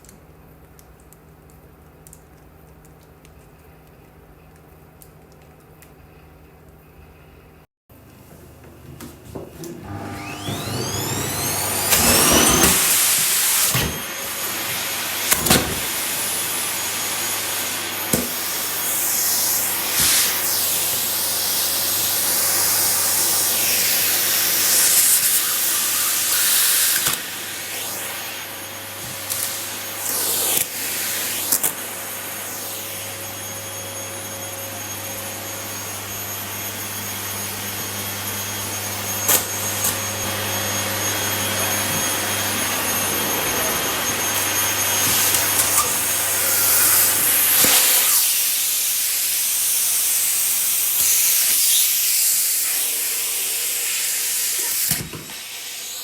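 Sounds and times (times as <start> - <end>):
vacuum cleaner running: 8.0 - 56.0.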